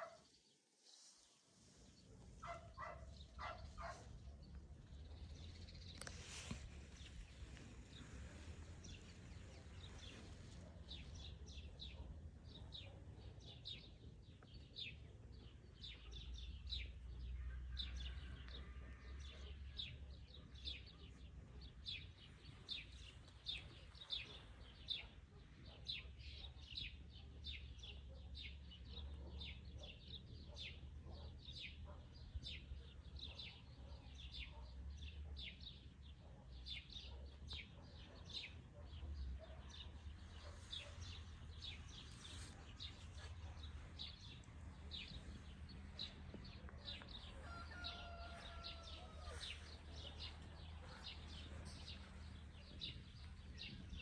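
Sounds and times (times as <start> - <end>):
small birds chirping: 0.0 - 17.4, 20.6 - 54.0.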